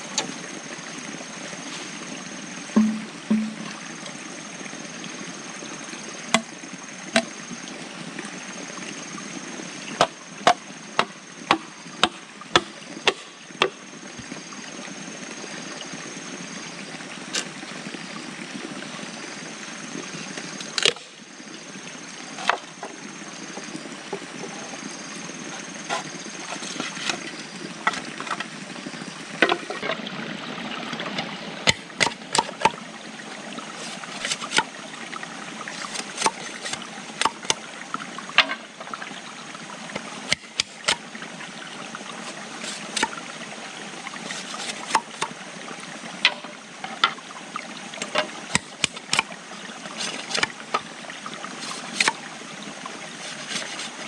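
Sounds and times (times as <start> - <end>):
running water trickling: 0.0 - 54.0.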